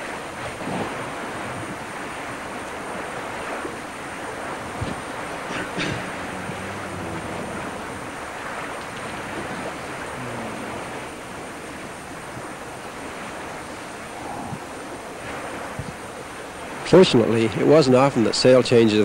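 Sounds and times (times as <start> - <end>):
sea: 0.0 - 19.0
wind: 0.0 - 19.0.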